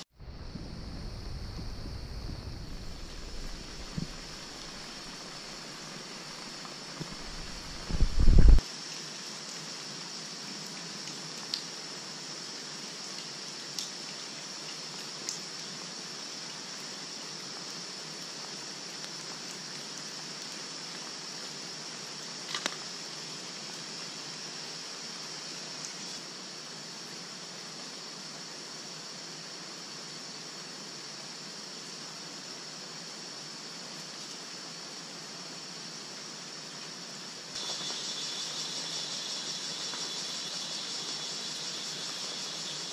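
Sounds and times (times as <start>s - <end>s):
fire crackling and hissing: 0.0s - 42.9s.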